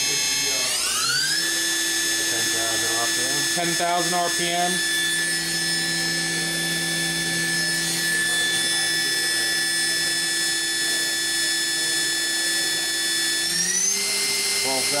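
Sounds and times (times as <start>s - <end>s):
machine spindle whine: 0.0s - 15.0s.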